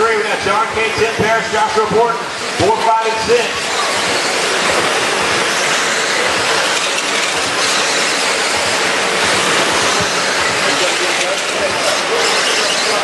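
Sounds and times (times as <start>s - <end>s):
rc trucks whirring on dirt: 2.4s - 13.0s.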